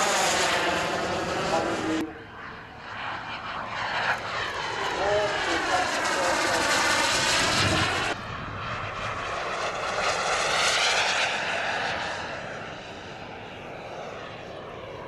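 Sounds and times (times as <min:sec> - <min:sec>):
model jet turbines flying past: 0:00.0 - 0:15.0.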